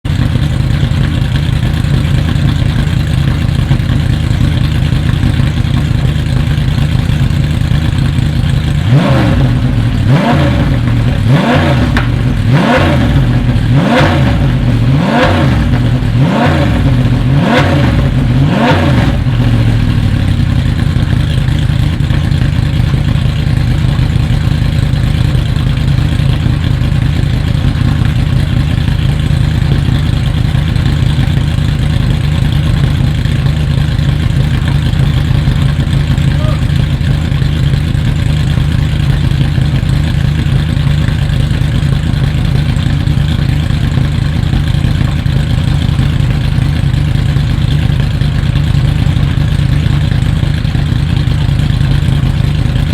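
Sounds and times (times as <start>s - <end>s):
car engine idling: 0.0s - 52.9s
engine revving: 7.4s - 52.9s.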